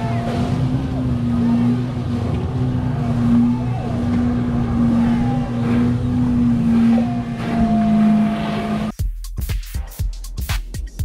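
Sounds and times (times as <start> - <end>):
engine running: 0.0 - 9.0.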